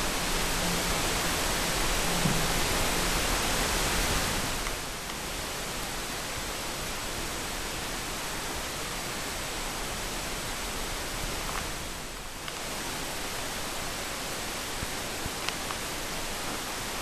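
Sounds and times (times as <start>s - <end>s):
camera recording hiss: 0.0s - 17.0s.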